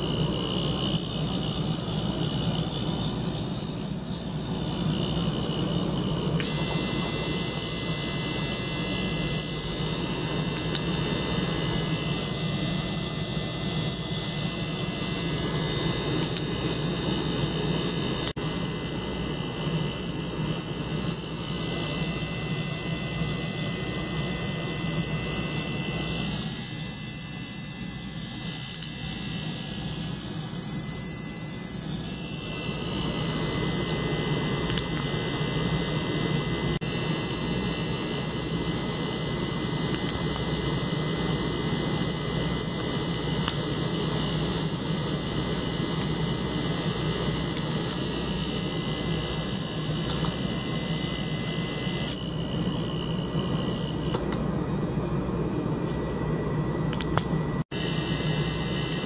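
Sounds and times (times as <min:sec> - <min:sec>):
ultrasonic cleaner humming: 0:00.0 - 0:59.0.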